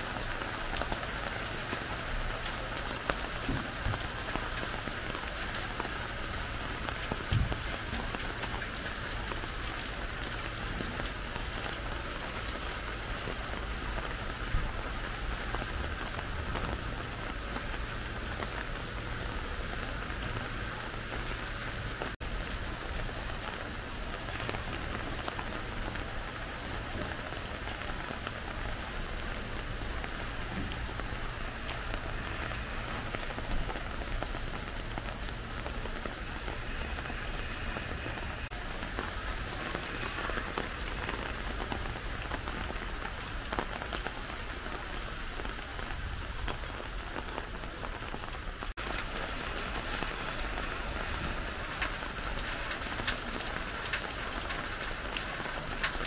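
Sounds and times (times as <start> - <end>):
rain pattering on paving: 0.0 - 56.0.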